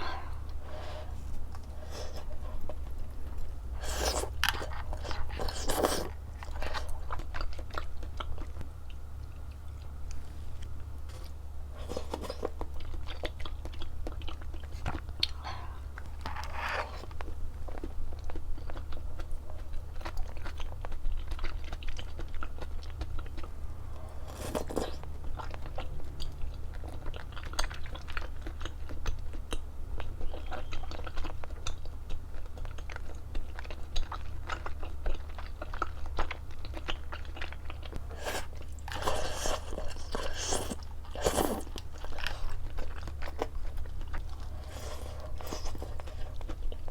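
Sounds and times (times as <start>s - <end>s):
crunchy chewing: 0.0s - 46.9s
steady low hum: 0.0s - 46.9s.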